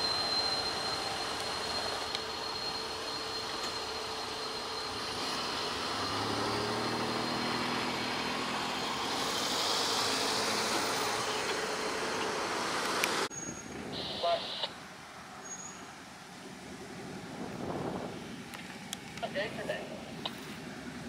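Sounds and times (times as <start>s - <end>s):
cars passing over railroad crossing: 0.0s - 21.0s.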